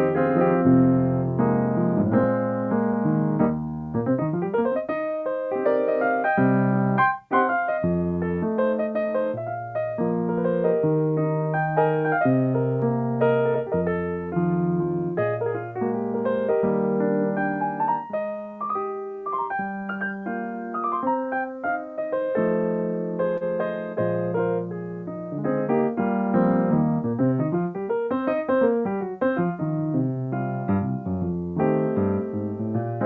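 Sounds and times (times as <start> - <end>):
solo piano piece: 0.0 - 33.0.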